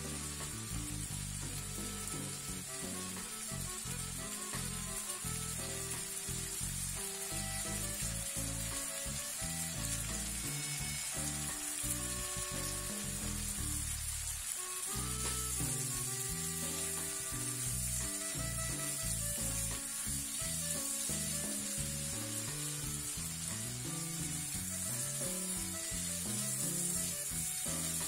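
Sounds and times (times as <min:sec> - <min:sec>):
background music: 0:00.0 - 0:28.0
chicken sizzling in oil: 0:00.0 - 0:28.0
spatula stirring in pan: 0:00.0 - 0:28.0.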